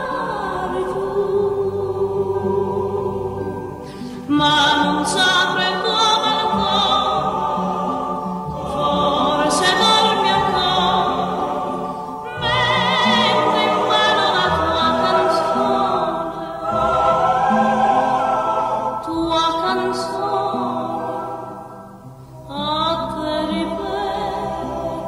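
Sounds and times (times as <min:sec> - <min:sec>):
choral singing with vibrato: 0:00.0 - 0:25.0
low sustained tone: 0:00.0 - 0:25.0.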